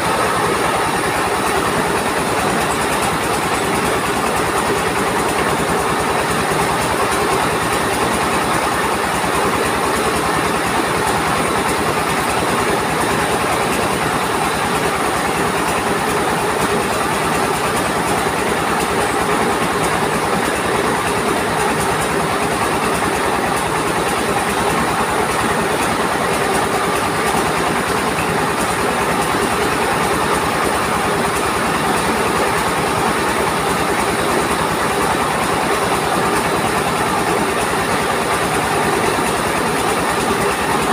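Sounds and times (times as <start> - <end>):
rice mill rattling din: 0.0 - 40.9.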